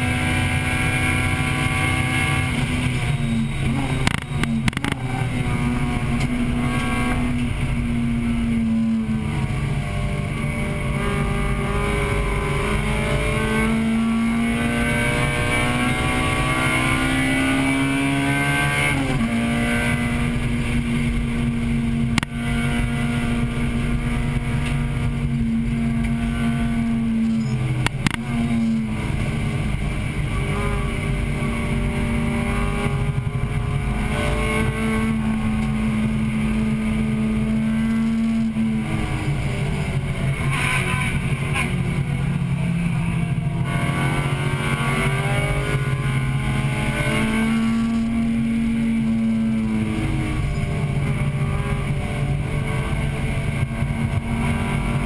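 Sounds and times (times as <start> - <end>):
car engine revving high: 0.0 - 55.0.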